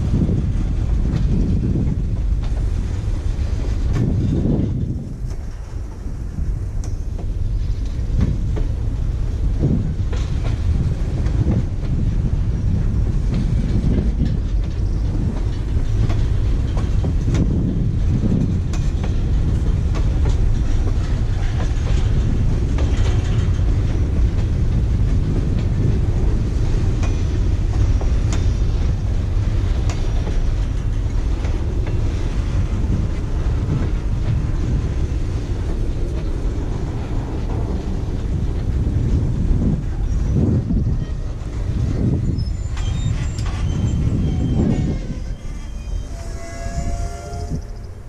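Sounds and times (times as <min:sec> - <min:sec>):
wheels clicking over rail joints: 0:00.0 - 0:47.9
freight train rumbling past: 0:00.0 - 0:48.0.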